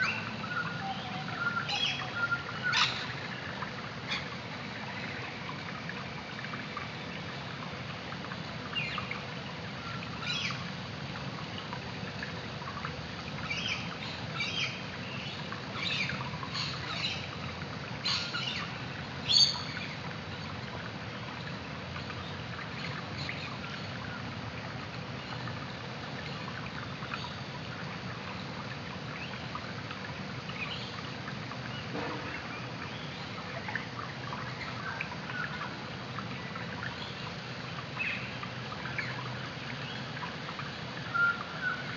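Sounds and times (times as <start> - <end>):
underwater rush of water: 0.0 - 41.9.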